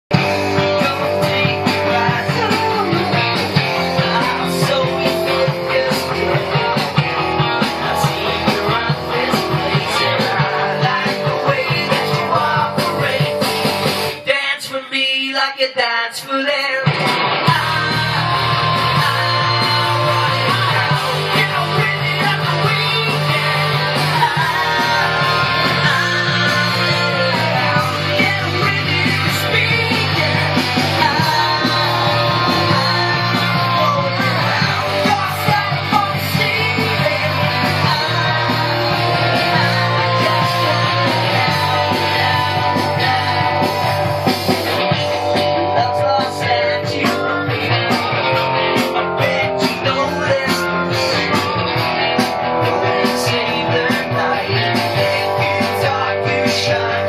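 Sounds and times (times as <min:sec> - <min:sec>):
rock music with guitar: 0:00.0 - 0:57.0
drum beat: 0:00.1 - 0:14.3, 0:16.8 - 0:57.0.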